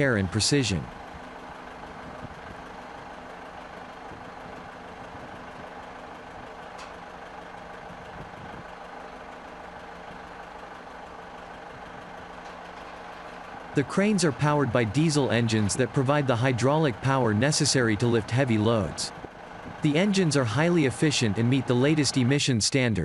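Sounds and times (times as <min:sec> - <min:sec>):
heavy diesel engine idling: 0:00.0 - 0:23.0.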